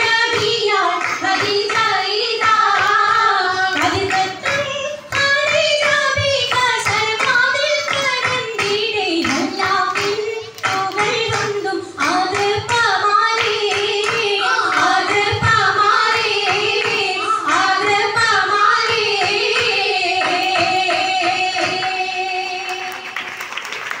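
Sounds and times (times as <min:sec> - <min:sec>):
rhythmic hand claps: 0:00.0 - 0:24.0.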